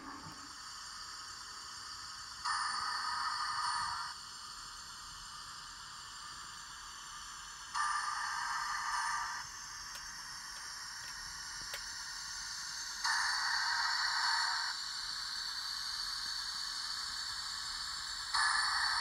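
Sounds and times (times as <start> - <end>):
model train hissing: 0.0 - 19.0.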